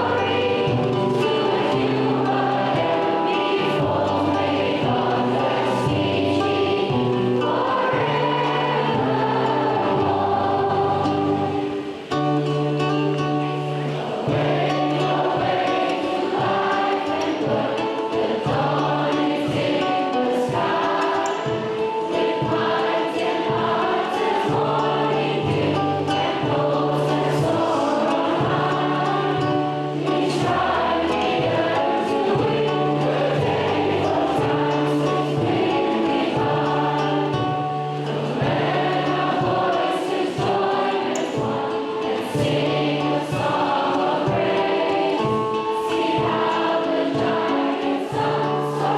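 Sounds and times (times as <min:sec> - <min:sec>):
choir singing: 0:00.0 - 0:48.9
musical accompaniment: 0:00.0 - 0:48.9.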